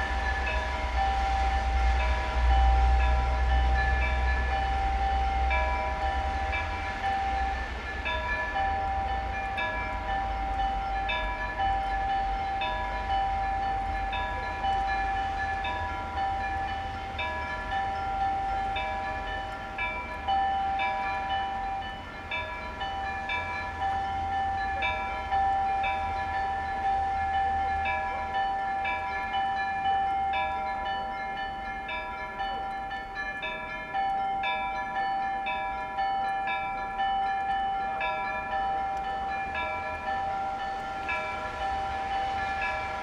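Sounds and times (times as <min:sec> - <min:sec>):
church bells ringing: 0:00.0 - 0:43.0.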